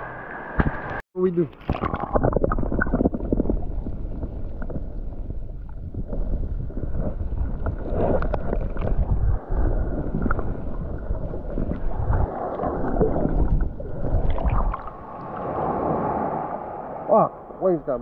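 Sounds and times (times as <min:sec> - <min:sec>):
underwater rumbling water: 0:00.0 - 0:18.0.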